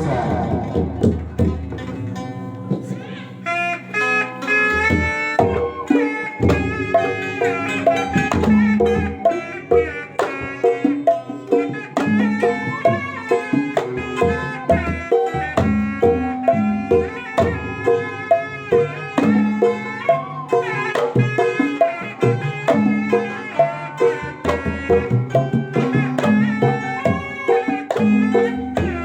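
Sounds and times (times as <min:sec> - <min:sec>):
bending melody line: 0:00.0 - 0:29.0
hand drums beating: 0:00.0 - 0:29.0.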